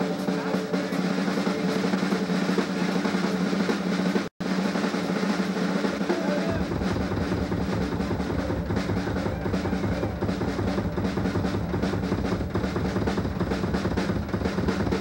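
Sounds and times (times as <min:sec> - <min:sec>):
bass drum rapid strokes: 0:00.0 - 0:15.0
drum kit played fast: 0:00.0 - 0:15.0.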